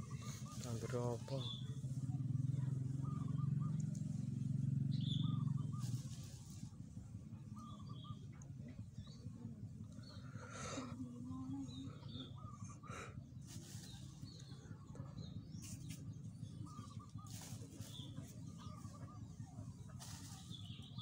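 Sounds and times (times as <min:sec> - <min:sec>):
birds chirping: 0:00.0 - 0:21.0
low steady hum: 0:00.0 - 0:21.0.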